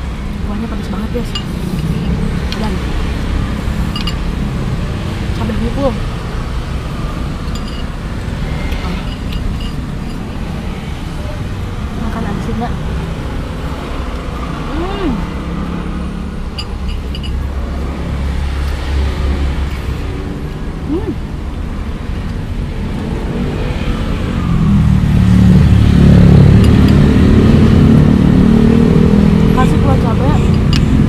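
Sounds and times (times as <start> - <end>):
nearby engine running: 0.0 - 31.0
road traffic: 0.0 - 31.0.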